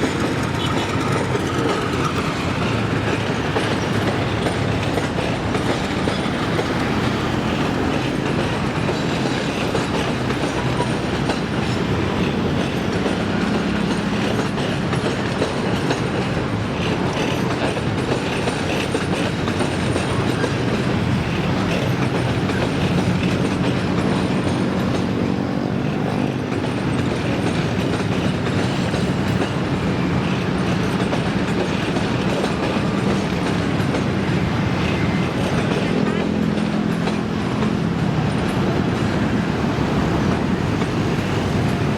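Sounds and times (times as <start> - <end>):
train rumbling past: 0.0 - 41.9
wheels clacking over rail joints: 0.0 - 41.9.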